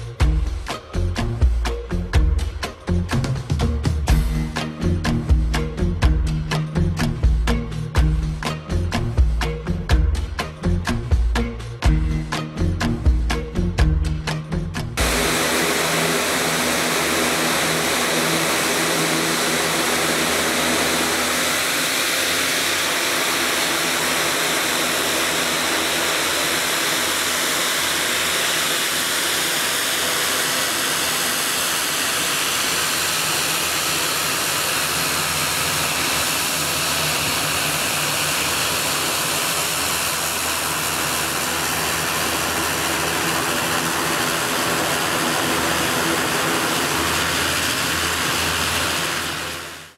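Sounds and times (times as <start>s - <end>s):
airliner engines running: 0.0s - 49.9s.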